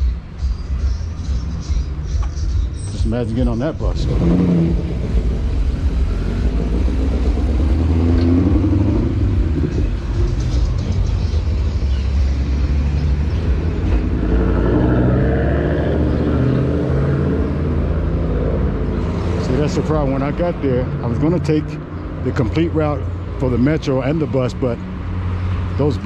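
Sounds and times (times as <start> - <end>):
bus engine rumbling: 0.0 - 26.0.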